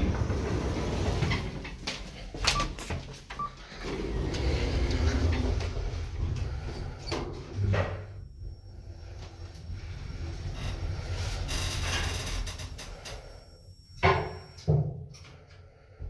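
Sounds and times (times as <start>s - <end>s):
elevator humming: 0.0s - 14.8s.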